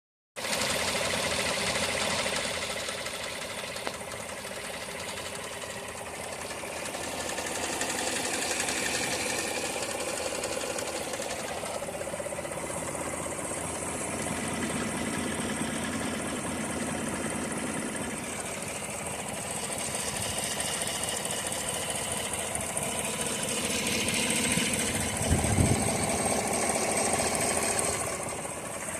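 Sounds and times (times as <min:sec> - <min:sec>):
engine with valvetrain ticking: 0:00.4 - 0:28.9.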